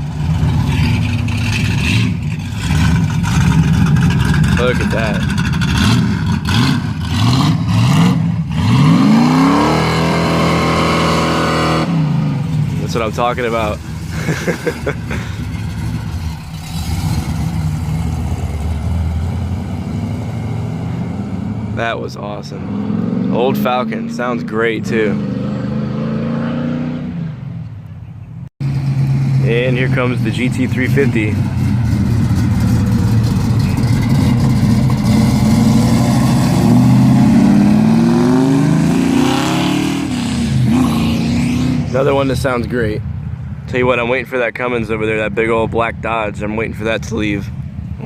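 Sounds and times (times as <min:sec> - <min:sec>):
car exhaust rumble: 0:00.0 - 0:48.0.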